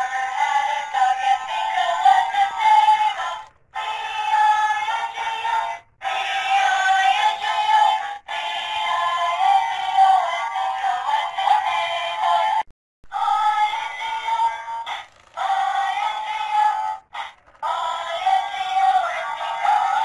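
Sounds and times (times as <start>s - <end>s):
toy playing tinny electronic song: 0.0s - 12.6s, 13.2s - 20.0s.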